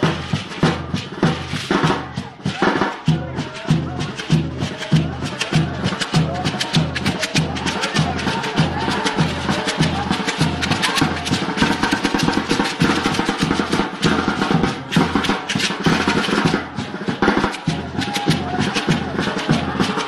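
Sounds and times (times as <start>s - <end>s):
drums in fast dance rhythm: 0.0s - 20.0s.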